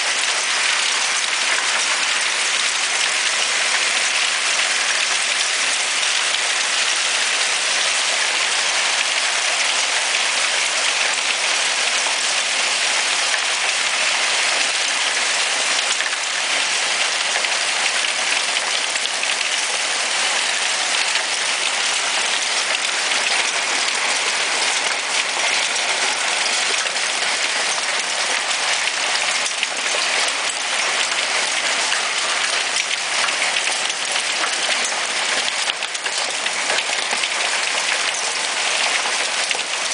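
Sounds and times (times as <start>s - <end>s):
hail on a wooden deck: 0.0s - 39.9s.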